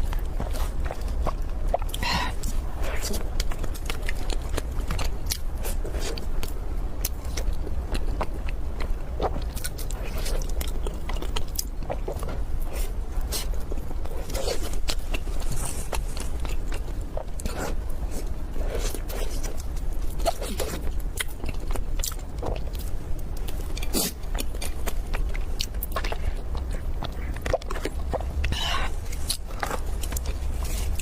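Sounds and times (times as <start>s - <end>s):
biting and chewing pastry: 0.0s - 31.0s.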